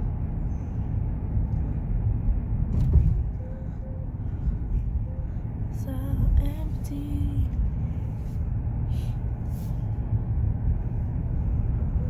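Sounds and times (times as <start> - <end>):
car tyres and engine rumble: 0.0 - 12.0.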